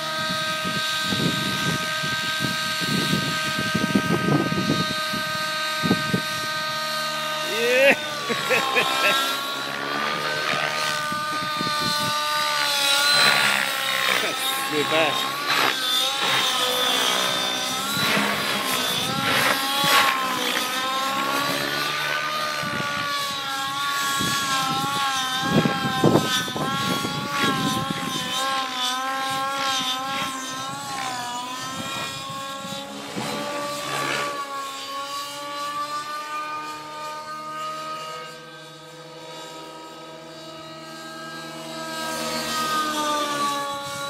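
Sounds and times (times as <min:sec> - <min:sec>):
model helicopter rotor whine: 0:00.0 - 0:44.0.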